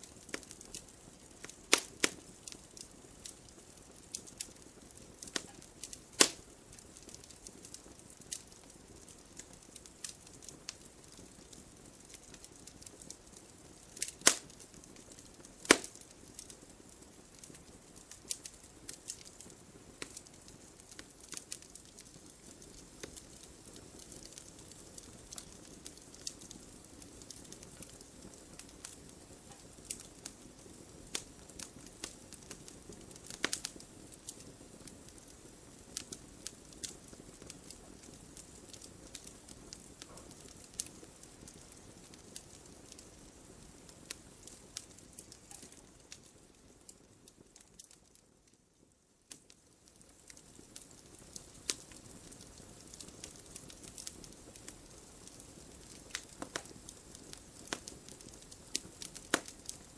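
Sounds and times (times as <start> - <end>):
loud fire pops: 0.0 - 48.0, 50.2 - 59.9
fire rumbling: 0.0 - 59.9
wood fire crackling: 0.0 - 59.9.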